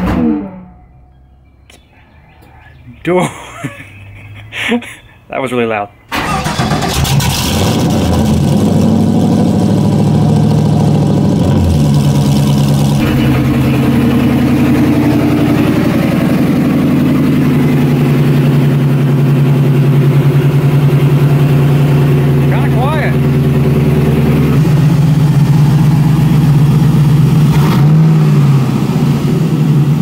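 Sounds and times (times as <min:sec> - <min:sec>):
car engine starting and idling: 0:06.0 - 0:30.0.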